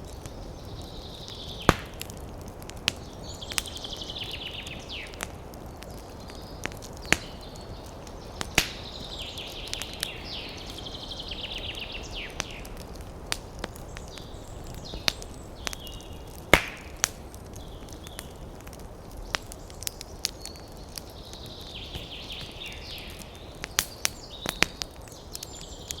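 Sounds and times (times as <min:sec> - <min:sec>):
birds chirping: 0:00.1 - 0:26.0
sharp crack: 0:01.3 - 0:03.9, 0:04.5 - 0:26.0.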